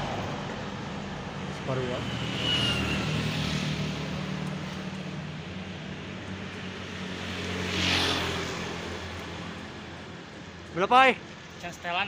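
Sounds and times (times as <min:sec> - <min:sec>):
wind and road noise on microphone: 0:00.0 - 0:12.0.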